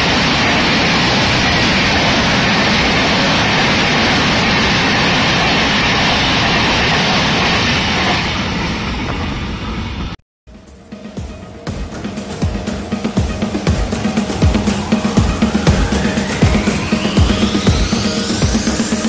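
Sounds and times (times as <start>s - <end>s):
train coaches rushing past: 0.0s - 10.2s, 10.9s - 19.0s.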